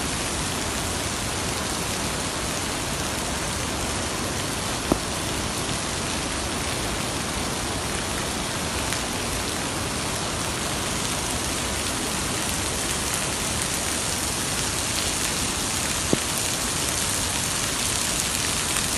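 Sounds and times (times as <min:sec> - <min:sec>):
rush of falling water: 0:00.0 - 0:18.9.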